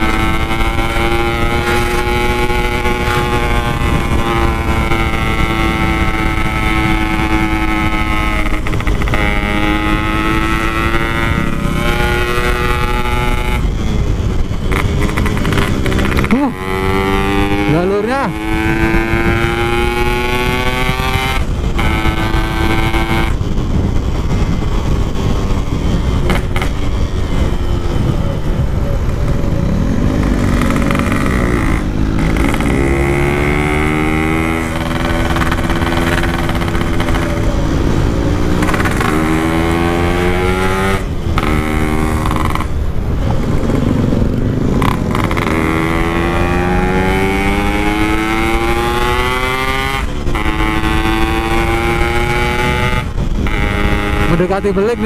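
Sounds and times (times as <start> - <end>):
two-stroke motorcycle accelerating: 0.0 - 55.0.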